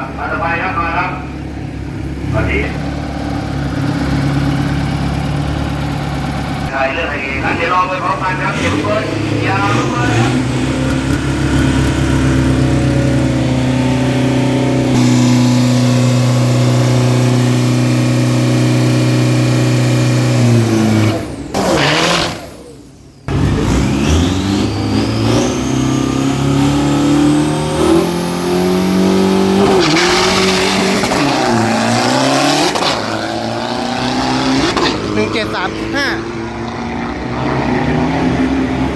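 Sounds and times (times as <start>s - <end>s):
diesel pickup engines revving: 0.0s - 38.9s.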